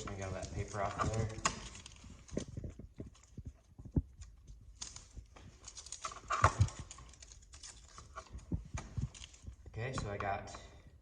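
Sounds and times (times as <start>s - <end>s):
paper rustling off wires: 0.0s - 9.7s
tools and cable clicking: 0.0s - 10.6s.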